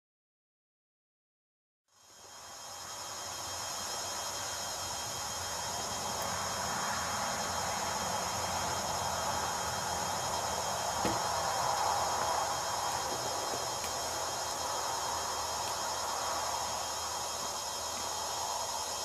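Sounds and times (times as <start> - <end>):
crickets chirping: 1.9 - 19.0
steady rushing hiss: 1.9 - 19.0.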